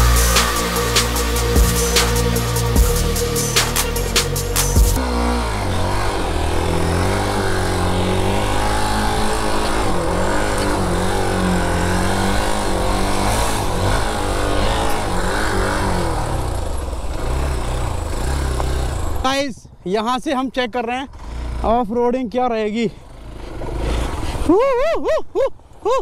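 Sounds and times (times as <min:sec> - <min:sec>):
motorcycle engine revving: 0:00.0 - 0:19.4, 0:21.0 - 0:22.2, 0:22.8 - 0:24.5.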